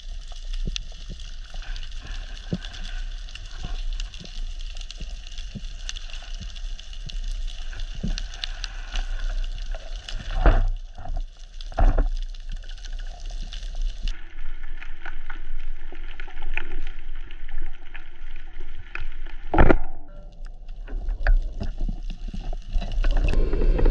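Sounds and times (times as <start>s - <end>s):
underwater crackling clicks: 0.1s - 14.2s, 15.9s - 23.9s.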